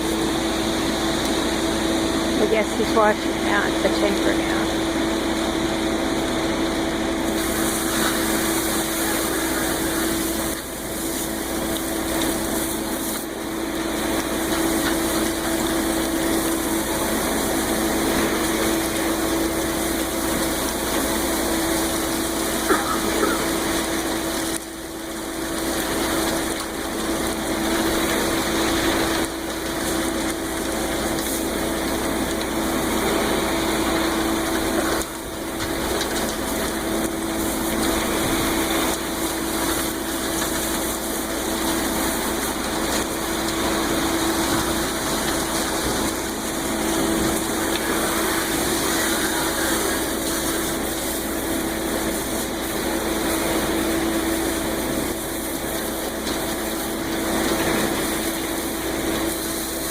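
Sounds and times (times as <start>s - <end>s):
truck engine hum: 0.0s - 59.9s
water spraying hiss: 7.3s - 59.9s.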